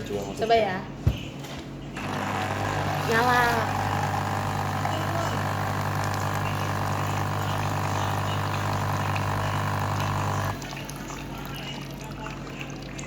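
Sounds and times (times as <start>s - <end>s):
electric pump motor humming: 2.0s - 13.0s.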